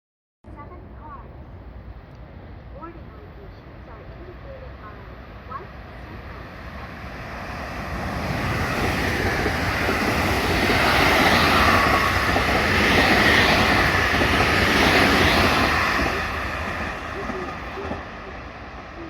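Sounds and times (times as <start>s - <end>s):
train rumbling past: 0.5s - 19.0s.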